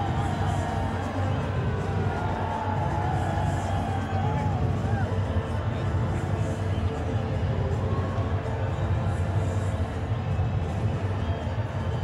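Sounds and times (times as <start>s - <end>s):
crowd noise: 0.0s - 12.0s
music over public address system: 0.0s - 12.0s.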